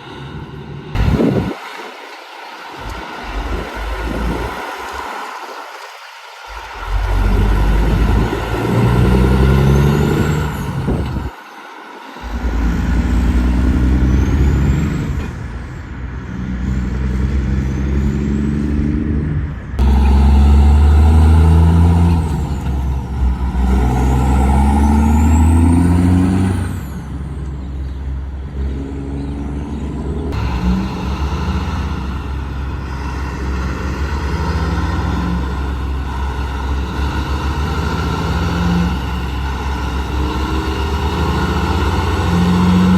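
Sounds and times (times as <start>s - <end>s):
diesel truck engine accelerating: 0.0s - 42.9s.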